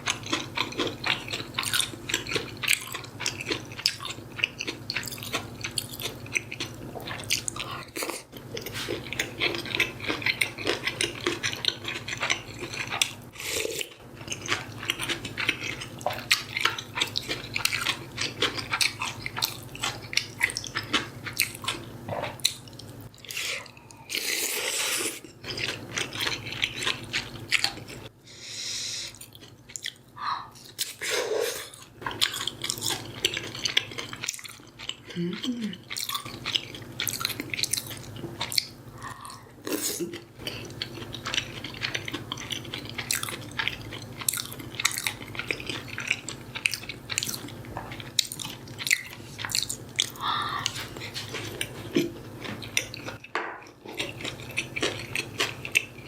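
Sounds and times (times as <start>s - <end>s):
crunchy chewing and biting: 0.0s - 28.1s, 29.1s - 56.0s.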